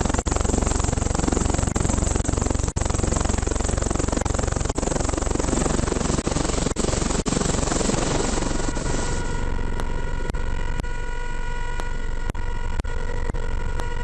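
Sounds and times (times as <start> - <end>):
helicopter rushing noise: 0.0 - 13.7
helicopter whine: 0.0 - 14.0.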